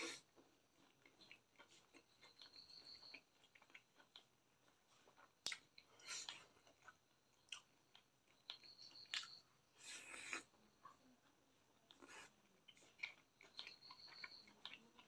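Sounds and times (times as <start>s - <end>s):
wet chewing and lip smacks: 0.0s - 15.0s.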